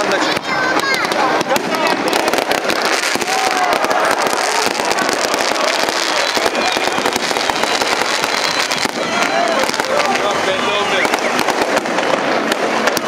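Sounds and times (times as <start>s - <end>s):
crowd voices: 0.0s - 13.0s
fireworks crackling and popping: 0.0s - 13.0s.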